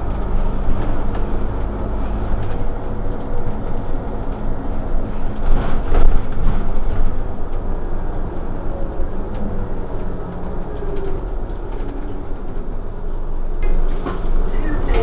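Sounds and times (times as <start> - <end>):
bus diesel engine hum: 0.0 - 15.0
road noise: 0.0 - 15.0.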